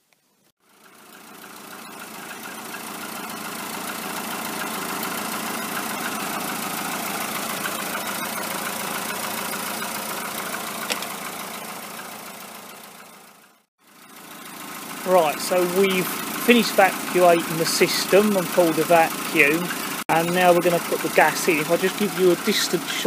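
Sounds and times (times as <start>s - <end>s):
motor running: 0.7s - 23.0s.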